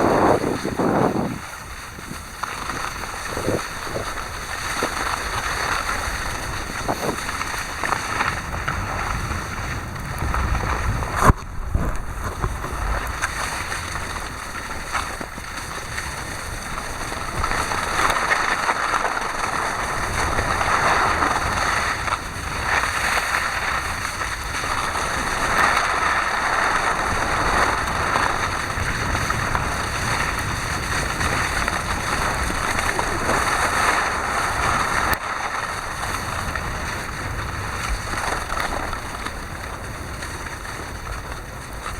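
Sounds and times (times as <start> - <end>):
skis hissing over snow: 0.0 - 11.3, 12.2 - 41.9
wind buffeting microphone: 0.0 - 41.9.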